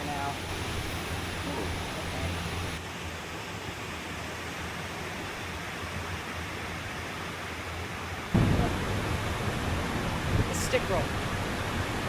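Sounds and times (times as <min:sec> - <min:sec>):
water rushing into pond: 0:00.0 - 0:12.0.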